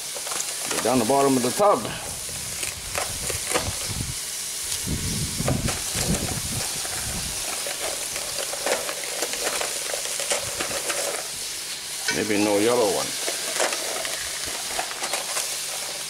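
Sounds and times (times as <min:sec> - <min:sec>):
fat popping and crackling: 0:00.0 - 0:11.6, 0:13.0 - 0:16.0
meat sizzling in a skillet: 0:00.0 - 0:16.0.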